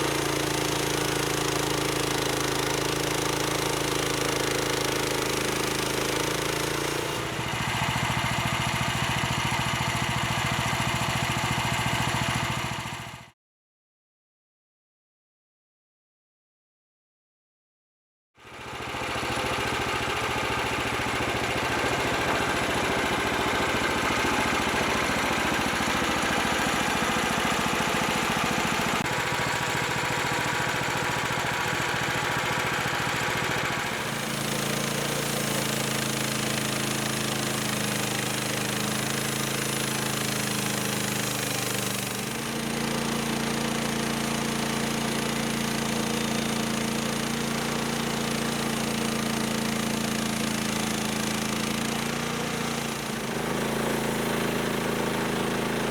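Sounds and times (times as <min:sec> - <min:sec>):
bandsaw sawmill running: 0:00.0 - 0:13.3, 0:18.4 - 0:55.9.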